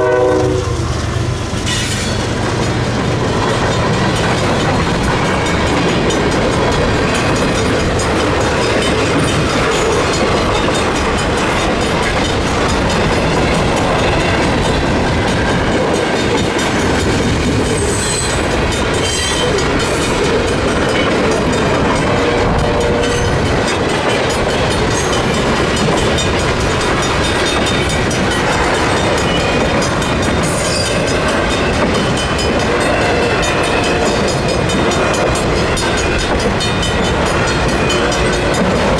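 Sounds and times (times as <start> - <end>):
crossing warning bell ringing: 0.0 - 38.9
freight train wheels clicking: 0.0 - 38.9.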